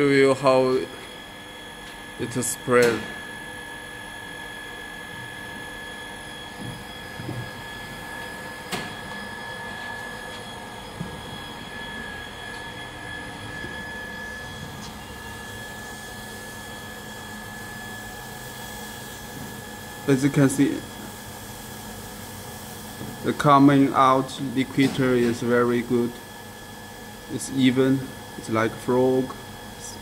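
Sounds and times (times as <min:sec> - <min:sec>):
machinery humming with high whine: 0:00.0 - 0:30.0.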